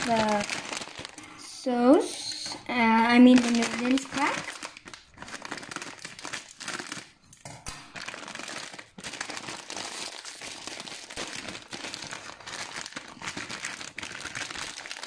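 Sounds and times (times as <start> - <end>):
plastic packet crinkling: 0.0 - 15.0.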